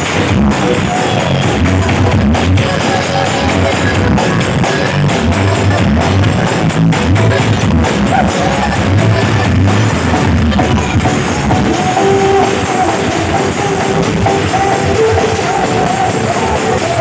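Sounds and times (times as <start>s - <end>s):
heavy pulsing deep bass: 0.0s - 17.0s
loud music with guitar and drums: 0.0s - 17.0s.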